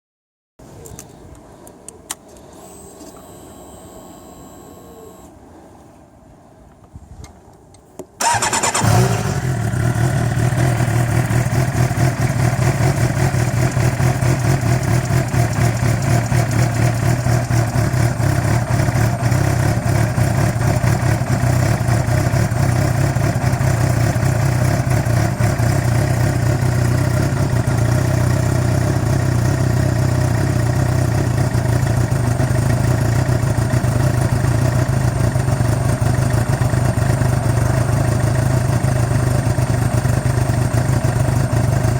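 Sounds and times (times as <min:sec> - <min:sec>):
motorcycle engine idling: 0:08.2 - 0:41.9.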